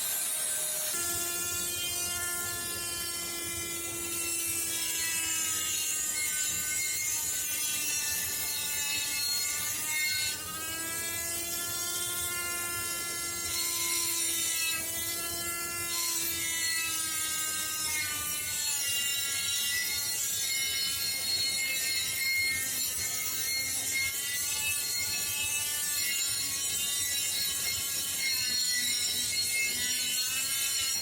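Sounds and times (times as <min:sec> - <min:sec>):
rotary tool motor whine: 0:00.0 - 0:31.0.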